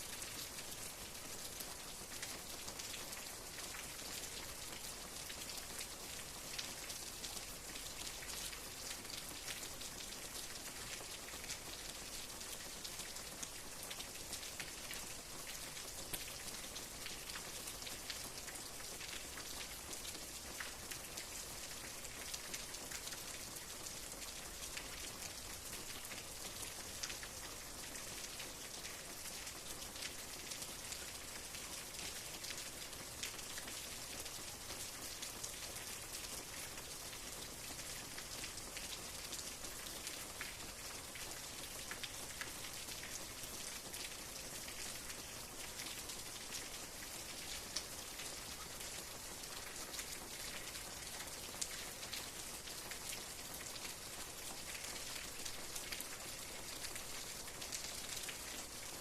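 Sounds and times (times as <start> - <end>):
raindrops pattering on a surface: 0.0 - 59.0
steady rain falling: 0.0 - 59.0.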